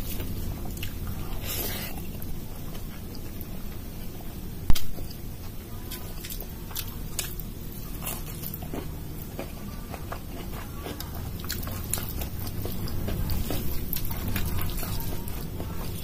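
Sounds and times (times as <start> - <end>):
chewing and wet mouth clicks: 0.0 - 3.5, 5.9 - 15.5
steady low hum: 0.0 - 16.0.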